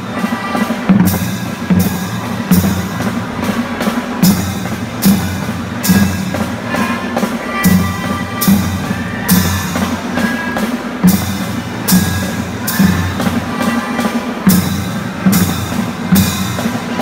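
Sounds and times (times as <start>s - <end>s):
cymbal or hi-hat: 0.0s - 17.0s.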